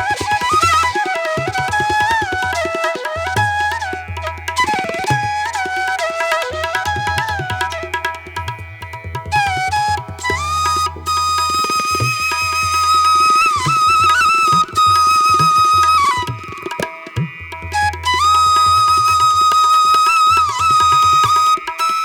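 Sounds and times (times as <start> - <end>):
flute-like melody: 0.0 - 22.0.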